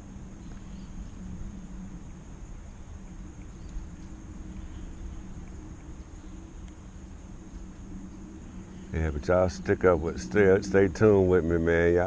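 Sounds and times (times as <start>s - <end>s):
faint high-pitched hum: 0.0s - 12.0s.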